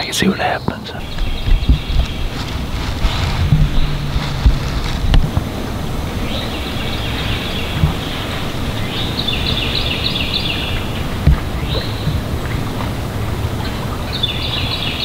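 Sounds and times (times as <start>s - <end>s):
songbird singing: 0.0s - 15.0s
wind rumble on microphone: 1.0s - 15.0s.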